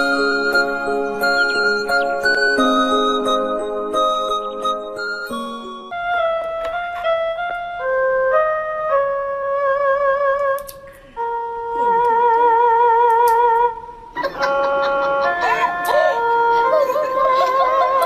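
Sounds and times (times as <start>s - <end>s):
background melody with vibrato: 0.0s - 18.0s.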